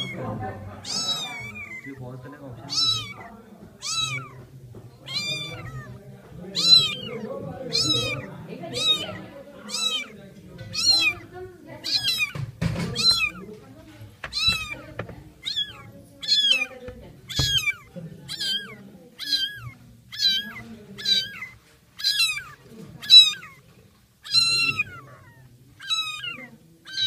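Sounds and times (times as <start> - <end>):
kitten mewing: 0.0 - 27.0.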